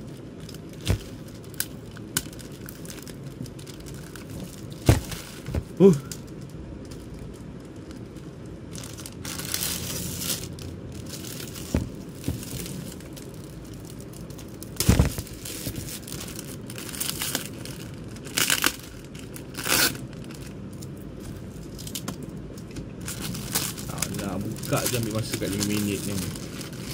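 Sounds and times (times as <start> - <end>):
plastic packaging crinkling and tearing: 0.0 - 26.9.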